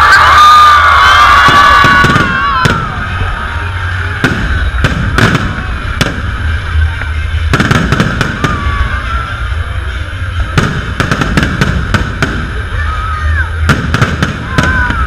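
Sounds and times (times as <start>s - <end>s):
steady low rumble: 0.2s - 15.0s
fireworks bursting with bangs: 1.2s - 15.0s.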